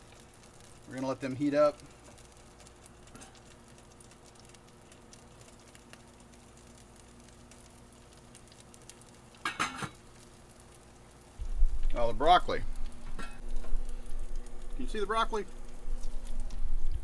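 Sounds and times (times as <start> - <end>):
onions sizzling in a skillet: 0.0 - 17.0.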